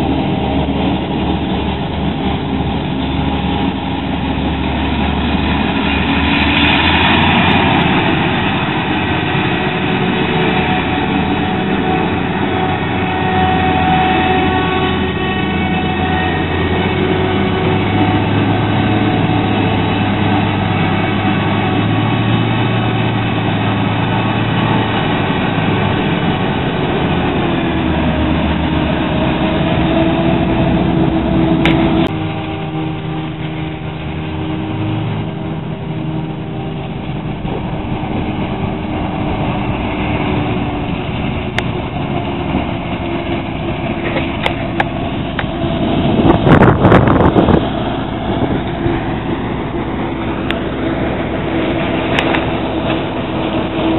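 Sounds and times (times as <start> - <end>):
heavy diesel engines droning: 0.0 - 53.9.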